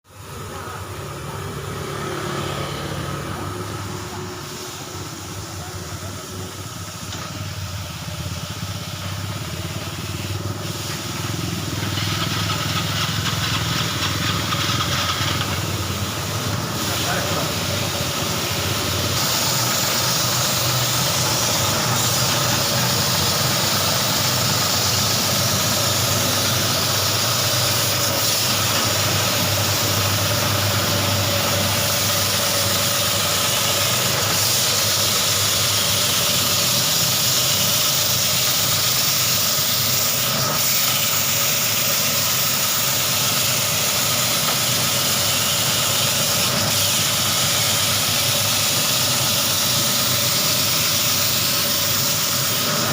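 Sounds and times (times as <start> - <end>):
carpet washing machine drone: 0.0 - 52.9.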